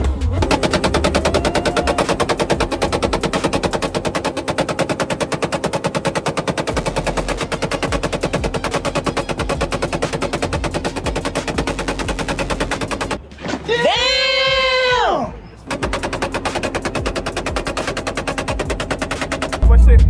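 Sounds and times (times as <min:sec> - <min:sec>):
exhaust popping and banging: 0:00.0 - 0:13.7, 0:15.6 - 0:20.0.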